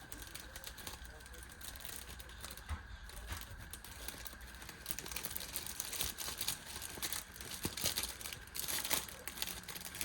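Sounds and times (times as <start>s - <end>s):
packaging crumpled by hand: 0.0s - 10.0s.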